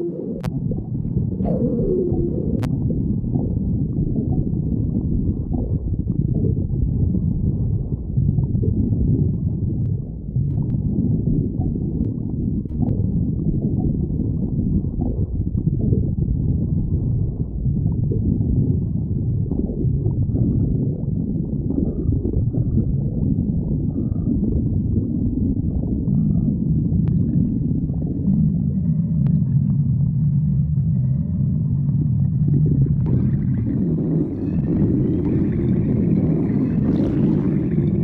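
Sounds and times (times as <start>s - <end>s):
stomach growling: 0.0s - 38.0s.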